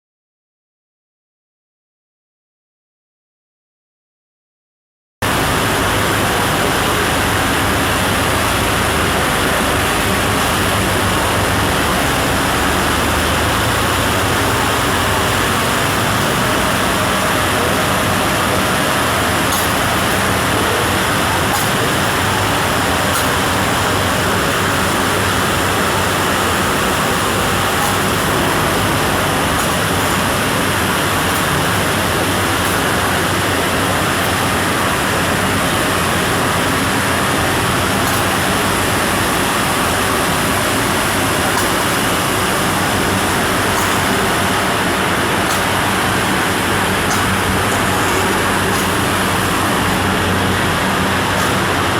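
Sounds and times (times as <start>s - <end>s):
wood-processing machinery running: 5.2s - 51.9s.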